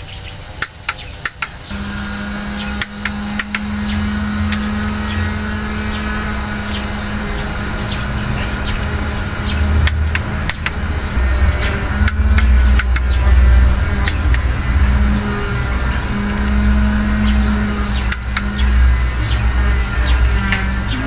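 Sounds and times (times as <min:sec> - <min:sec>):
sharp metallic clicks: 0:00.0 - 0:21.0
vehicle engine running: 0:00.0 - 0:21.0.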